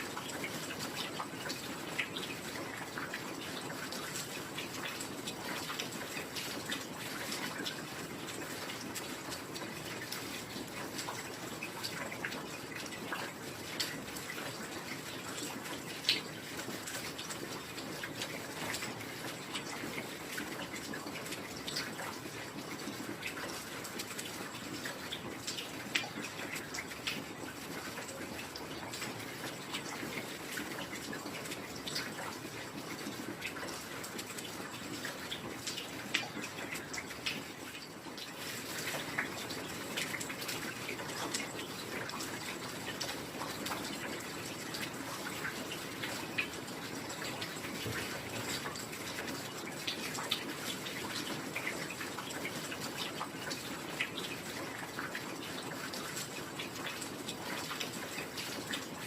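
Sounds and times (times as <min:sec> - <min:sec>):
heavy rain: 0:00.0 - 0:59.0
water drops ticking: 0:00.1 - 0:58.9.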